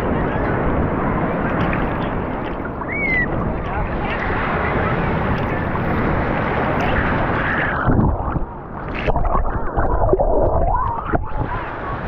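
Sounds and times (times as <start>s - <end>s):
wind noise on microphone: 0.0s - 12.0s
muffled underwater gurgling: 2.0s - 12.0s.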